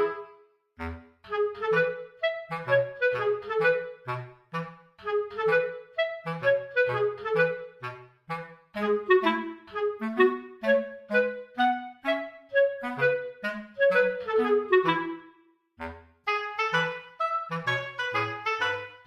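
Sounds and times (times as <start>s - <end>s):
playful woodwind tune: 0.0s - 19.0s.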